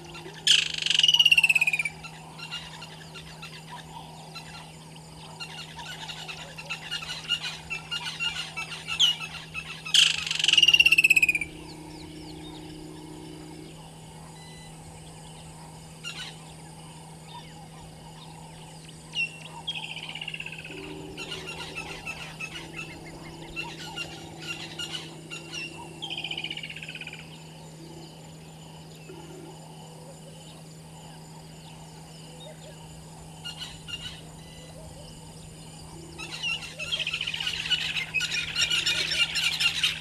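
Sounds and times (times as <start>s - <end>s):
birds chirping: 0.0s - 40.0s
steady low hum: 0.0s - 40.0s.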